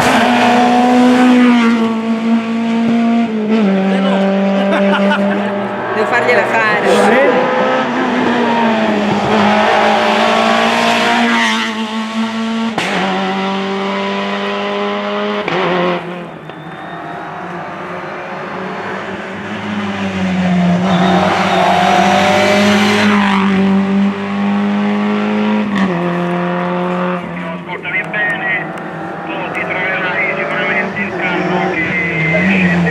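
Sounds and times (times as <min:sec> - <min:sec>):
rally car engine revving hard: 0:00.0 - 0:32.9.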